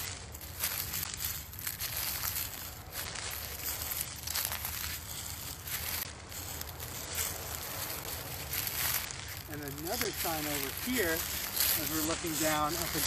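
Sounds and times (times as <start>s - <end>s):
footsteps in dry leaves: 0.0s - 13.0s.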